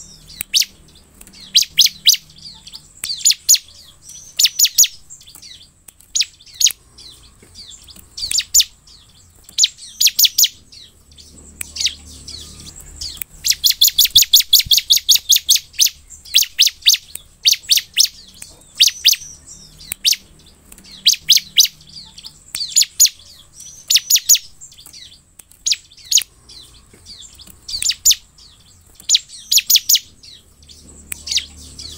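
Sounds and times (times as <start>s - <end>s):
bird chirping: 0.0s - 31.9s
fast bird trill: 0.0s - 31.9s.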